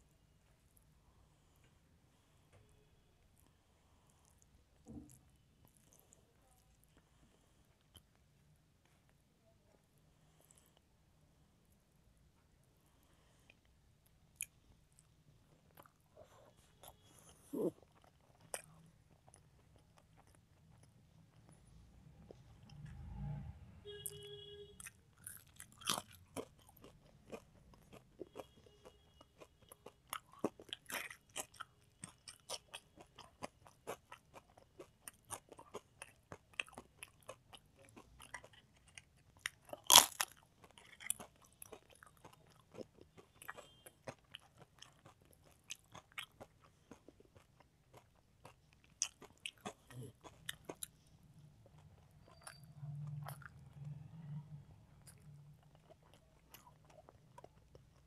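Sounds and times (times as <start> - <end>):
chewing and crunching food: 0.0 - 11.0, 11.6 - 23.3, 24.0 - 58.0.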